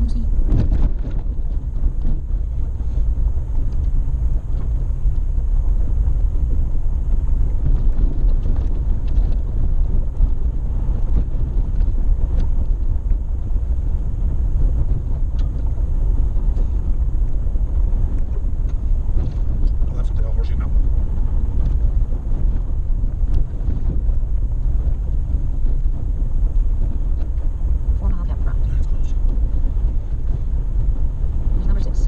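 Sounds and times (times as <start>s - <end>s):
vehicle engine and tyres rumbling: 0.0s - 32.0s.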